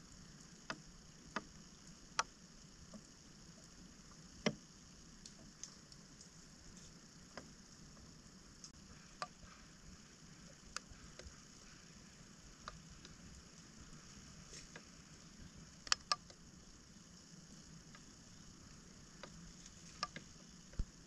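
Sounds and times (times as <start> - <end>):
faint clicks and ticks: 0.0 - 21.0
low steady hiss: 0.0 - 21.0.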